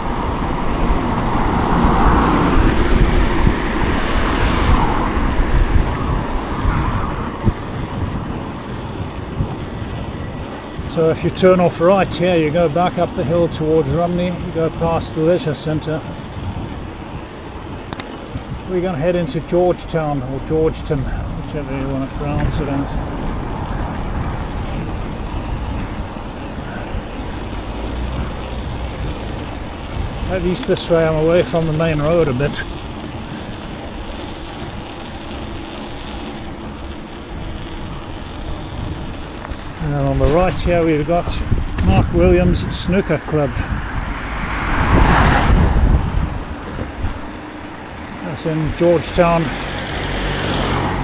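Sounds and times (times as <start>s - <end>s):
road traffic noise: 0.0s - 51.0s
wind rushing over microphone: 0.0s - 51.0s.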